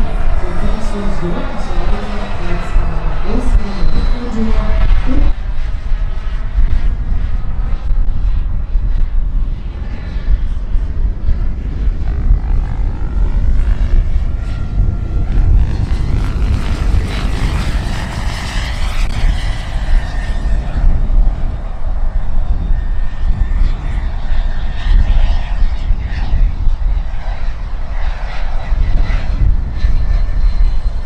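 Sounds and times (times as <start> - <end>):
model helicopter turbine whine: 0.0 - 31.0
wind rumbling on microphone: 0.0 - 31.0.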